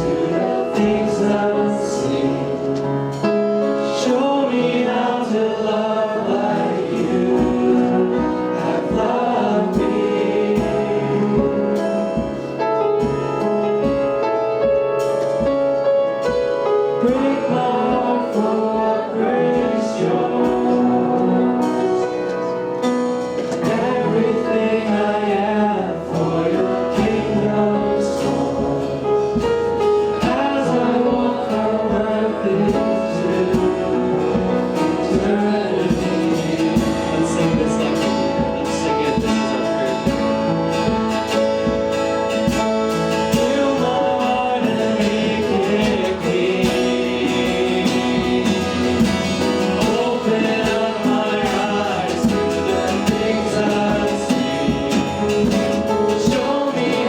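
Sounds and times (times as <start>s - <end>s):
gospel voices singing: 0.0s - 57.0s
instrumental accompaniment: 0.0s - 57.0s.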